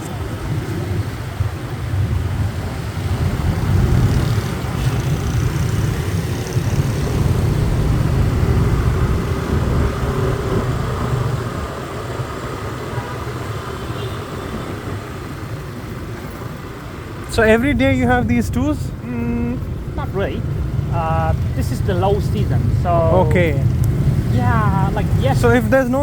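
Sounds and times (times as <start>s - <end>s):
low traffic rumble: 0.0s - 26.0s
passing cars and motorbikes: 0.0s - 26.0s.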